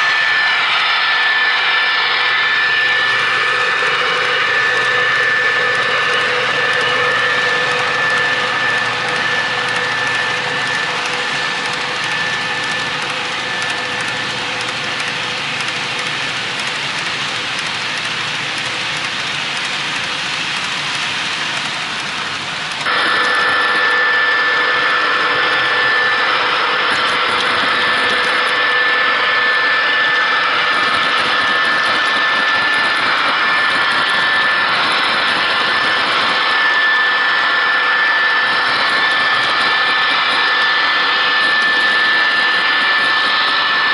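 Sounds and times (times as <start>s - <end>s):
model train rolling rumble: 0.0s - 43.9s
thin steady whine: 0.0s - 43.9s.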